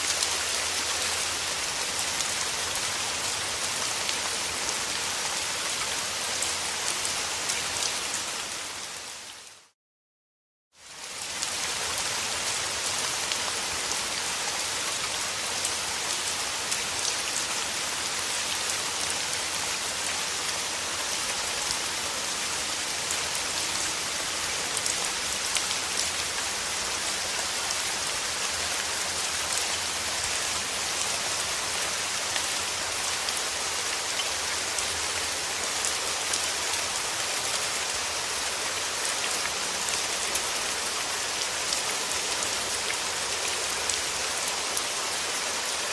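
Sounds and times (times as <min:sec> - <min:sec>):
steady rain falling: 0:00.0 - 0:09.8, 0:10.7 - 0:45.9.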